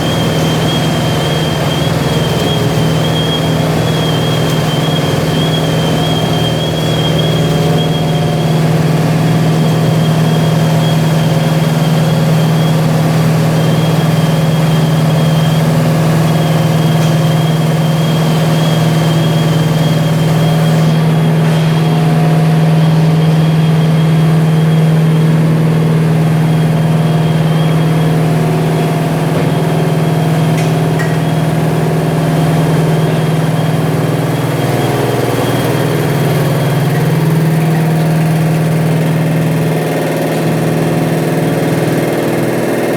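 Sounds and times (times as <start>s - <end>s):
washing machine hum: 0.0s - 42.9s.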